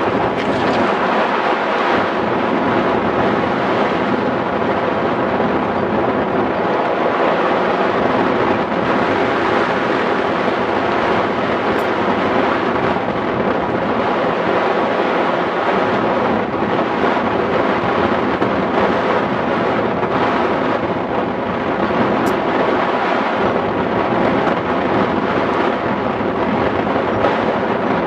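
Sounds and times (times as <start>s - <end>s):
airflow buffeting microphone: 0.0s - 28.0s.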